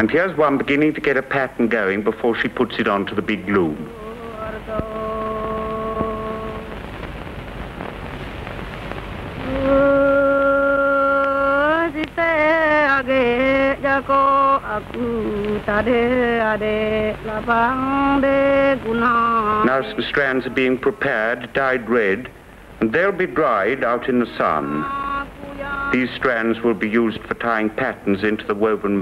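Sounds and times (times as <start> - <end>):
faint hiss: 0.0 - 29.0
soft steady tone: 0.1 - 29.0.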